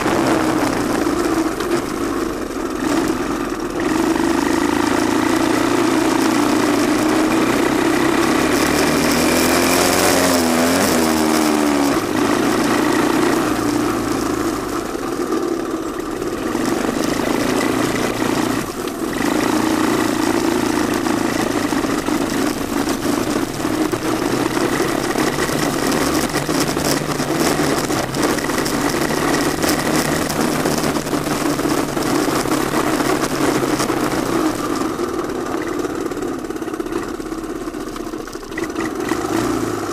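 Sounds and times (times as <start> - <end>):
three-wheeler engine running: 0.0 - 39.9.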